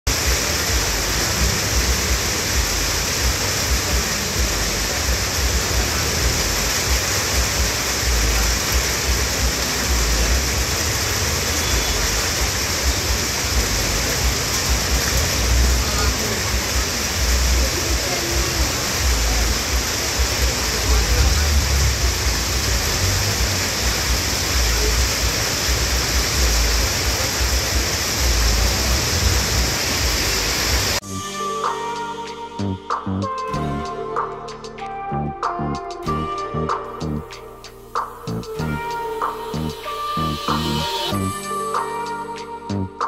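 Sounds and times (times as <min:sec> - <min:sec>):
heavy rain hiss: 0:00.1 - 0:31.0, 0:36.1 - 0:43.0.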